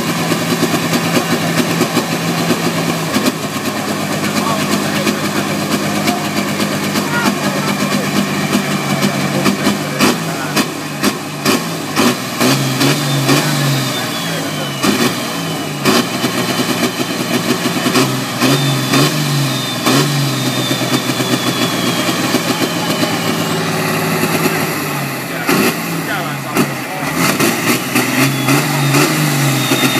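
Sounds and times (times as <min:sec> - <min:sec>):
tractor diesel engine revving: 0:00.0 - 0:29.9.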